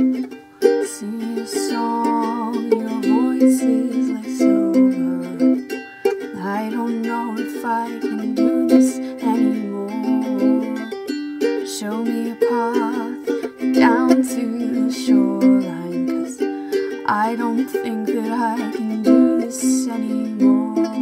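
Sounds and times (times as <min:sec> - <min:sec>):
person singing long notes: 0:00.0 - 0:11.0, 0:11.6 - 0:21.0
plucked string chords: 0:00.0 - 0:21.0.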